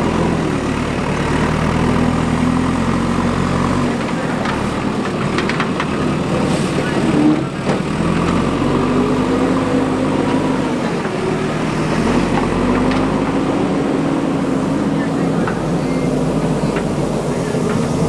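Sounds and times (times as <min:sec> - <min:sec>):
diesel engine revving: 0:00.0 - 0:18.0.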